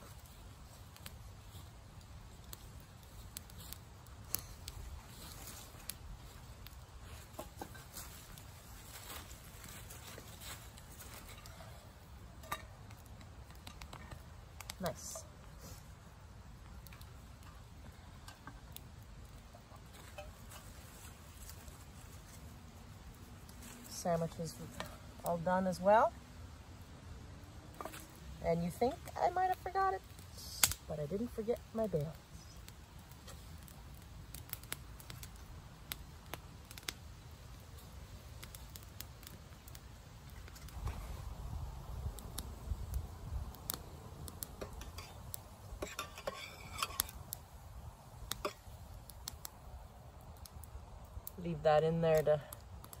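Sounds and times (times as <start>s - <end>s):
sharp snaps of burning wood: 0.0s - 53.0s
wood fire crackling: 0.0s - 53.0s.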